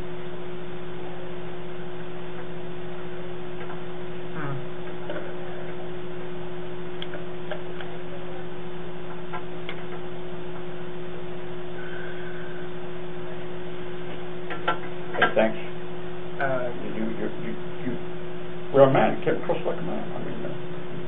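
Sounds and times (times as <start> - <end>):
electrical hum and hiss: 0.0 - 21.0.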